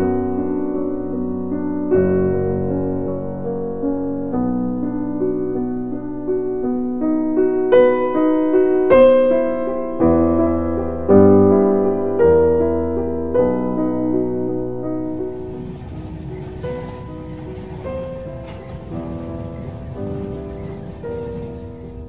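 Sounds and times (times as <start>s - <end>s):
slow piano piece: 0.0s - 22.0s.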